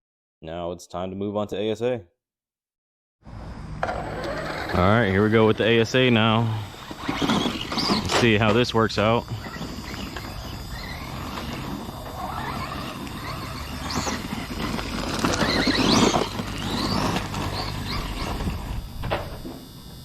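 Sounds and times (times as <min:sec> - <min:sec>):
rc car motor whine: 0:03.3 - 0:20.0
tyres and drivetrain noise: 0:03.3 - 0:20.0.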